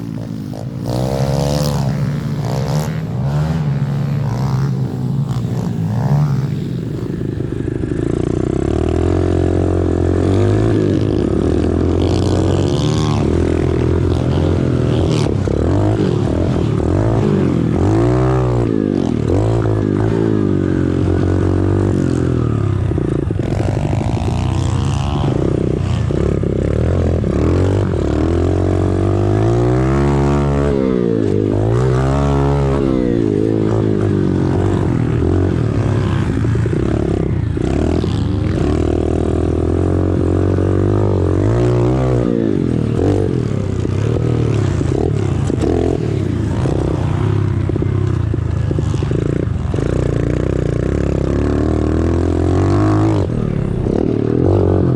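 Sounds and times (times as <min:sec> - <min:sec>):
small motorbike engine revving: 0:00.0 - 0:54.9.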